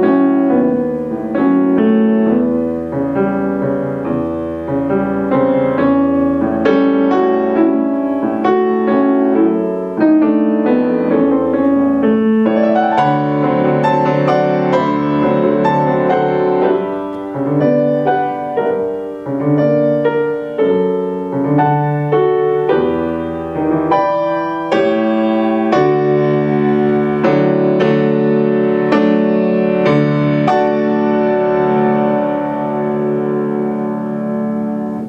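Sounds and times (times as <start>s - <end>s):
solo piano tango: 0.0s - 35.0s.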